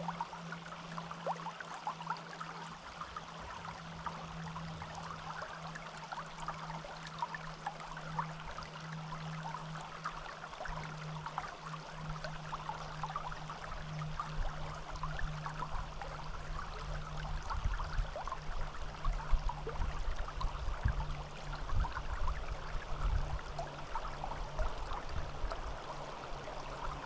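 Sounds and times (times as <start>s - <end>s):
stream babbling: 0.0s - 27.0s.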